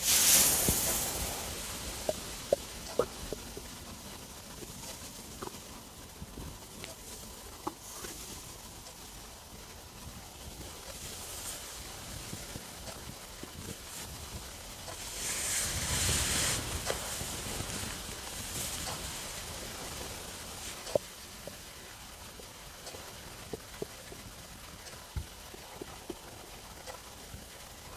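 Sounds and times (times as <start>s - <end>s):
stomach rumbling and gurgling: 0.0s - 27.9s.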